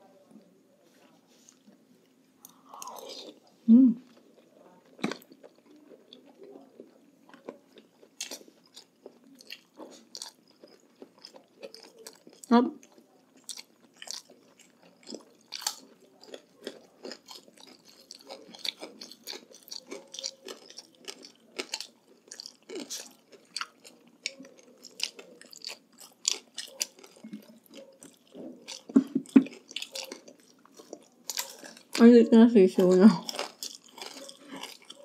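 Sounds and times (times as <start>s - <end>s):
wet chewing and biting: 4.9s - 32.0s, 32.8s - 35.0s
crisp food crunches: 5.0s - 32.0s, 33.2s - 35.0s.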